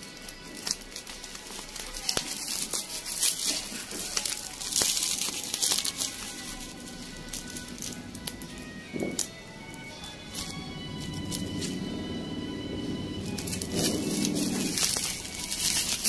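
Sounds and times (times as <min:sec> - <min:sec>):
bubble wrap and tape crinkling: 0:00.0 - 0:16.0
loud bursts of rustling: 0:00.0 - 0:16.0
soft background music: 0:00.0 - 0:16.0.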